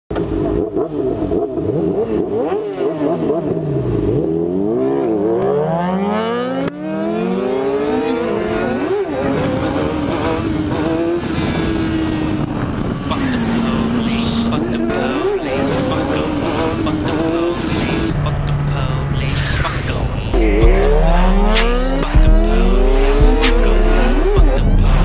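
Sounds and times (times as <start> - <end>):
motorcycle accelerating through gears: 0.1 - 25.0
sport-bike engines revving: 0.2 - 25.0.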